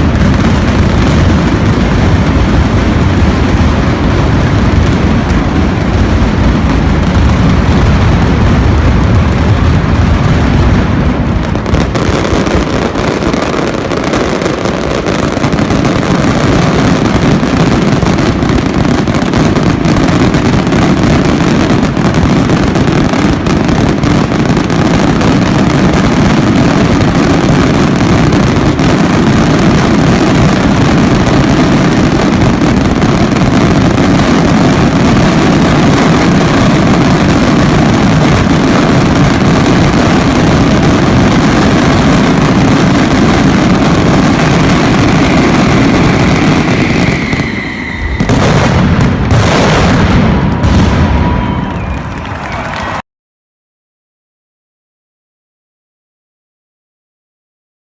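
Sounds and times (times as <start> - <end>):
firecrackers banging continuously: 0.0 - 53.0.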